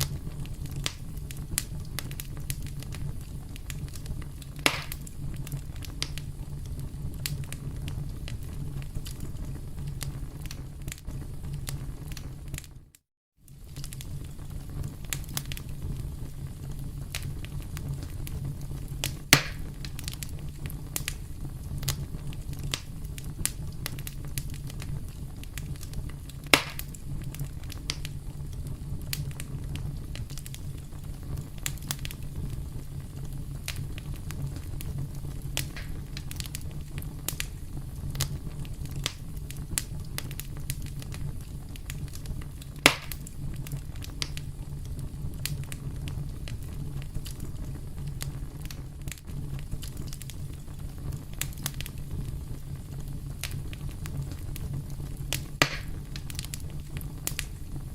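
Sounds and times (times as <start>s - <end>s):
campfire wood crackling: 0.0s - 57.9s
loud fire pops: 0.0s - 57.9s
low fire rumble: 0.0s - 57.9s.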